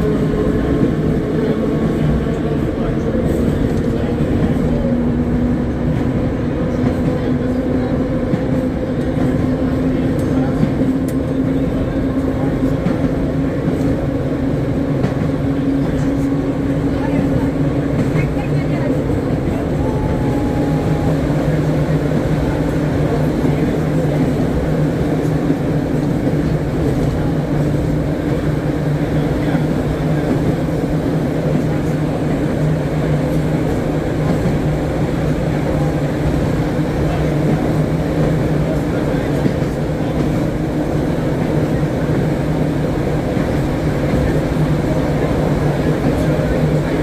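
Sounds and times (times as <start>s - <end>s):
trolley wheels rumbling on rail: 0.0s - 47.0s.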